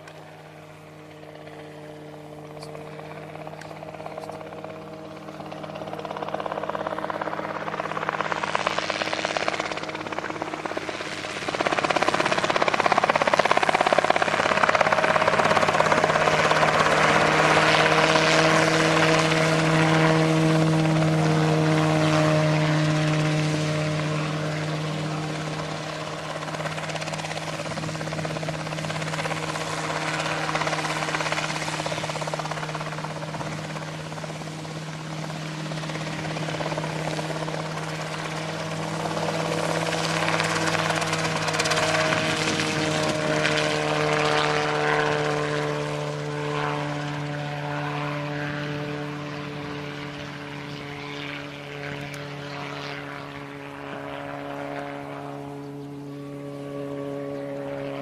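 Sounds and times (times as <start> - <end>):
helicopter engine running: 0.0 - 58.0.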